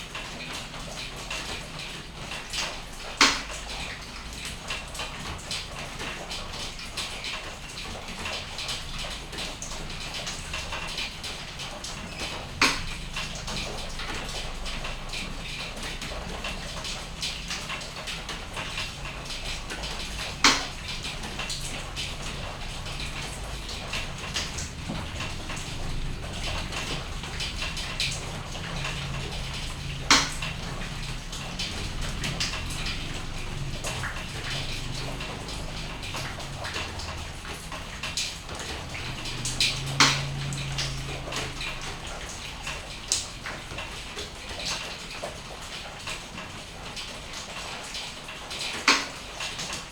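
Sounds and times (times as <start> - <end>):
rain pattering: 0.0 - 49.9.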